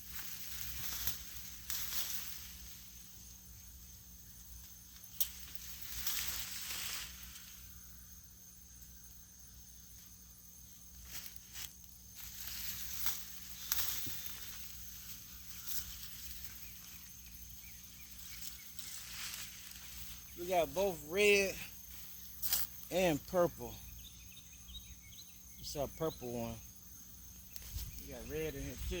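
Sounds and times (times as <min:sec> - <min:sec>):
soil and vines rustling: 0:00.0 - 0:29.0.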